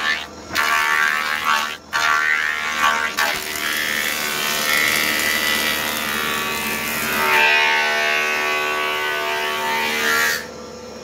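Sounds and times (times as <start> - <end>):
thickness planer whining: 0.0 - 11.0.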